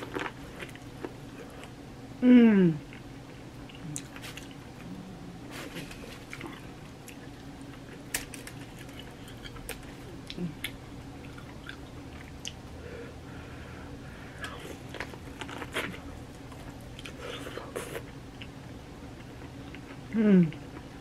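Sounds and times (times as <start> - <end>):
person chewing corn: 0.0 - 1.8, 2.8 - 12.6, 14.4 - 21.0.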